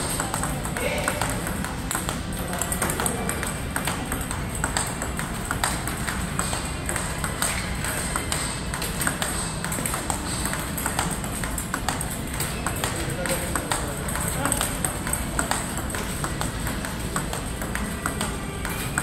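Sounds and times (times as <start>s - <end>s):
table tennis ball hits: 0.0s - 19.0s.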